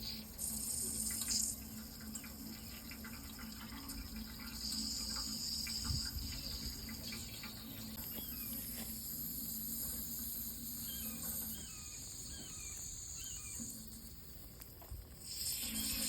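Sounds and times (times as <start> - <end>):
crickets chirring: 0.0 - 16.0
faint running water: 0.0 - 16.0.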